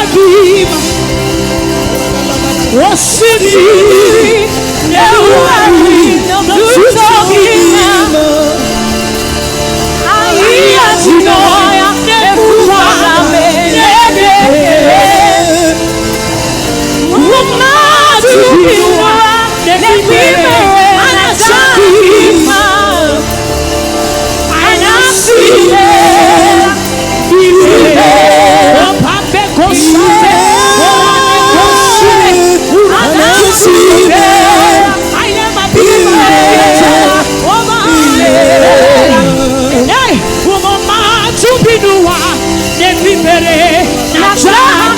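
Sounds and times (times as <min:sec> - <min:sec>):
band playing chords: 0:00.0 - 0:44.9
person singing gospel: 0:00.0 - 0:44.9
sustained instrumental accompaniment: 0:00.0 - 0:44.9.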